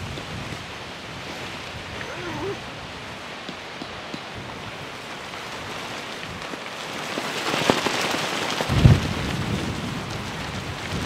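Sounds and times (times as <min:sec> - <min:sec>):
wind rushing across microphone: 0:00.0 - 0:11.0.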